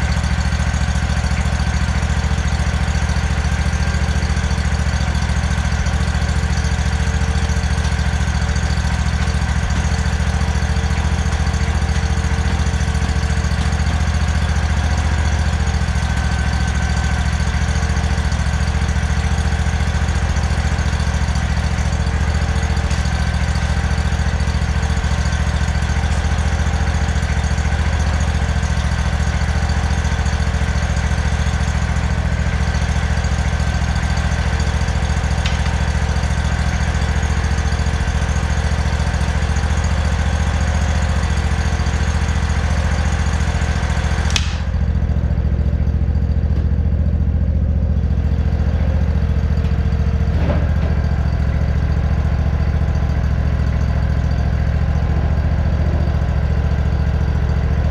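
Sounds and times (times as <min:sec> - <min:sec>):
lawn mower engine idling: 0:00.0 - 0:57.9.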